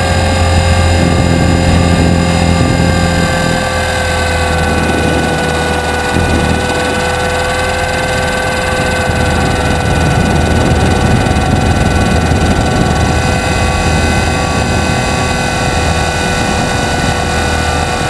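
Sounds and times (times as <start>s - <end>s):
rc helicopter whine: 0.0s - 18.0s
rotor and wind rush: 0.0s - 18.0s.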